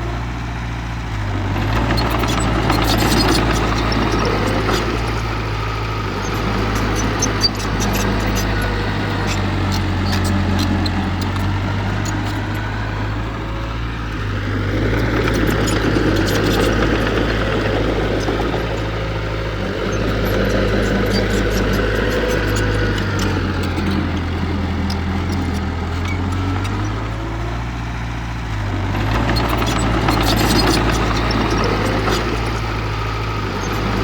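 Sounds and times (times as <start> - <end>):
heavy diesel engine running: 0.0 - 34.0.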